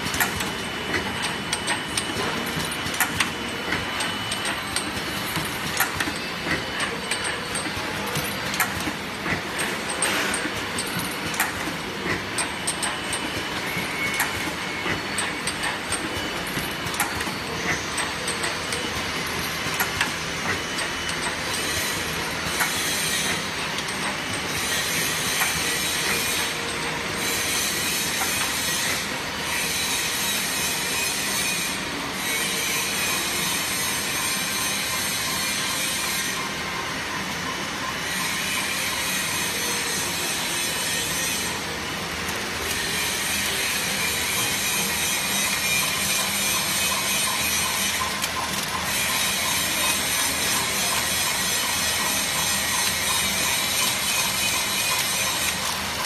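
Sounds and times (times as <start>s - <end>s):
conveyor mechanical clatter: 0.0s - 56.0s.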